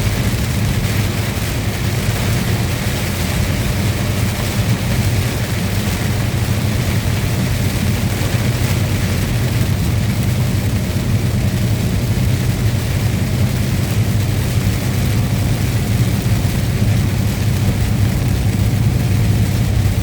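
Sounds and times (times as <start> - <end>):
truck engine drone: 0.0 - 20.0
tyre hiss on wet road: 0.0 - 20.0.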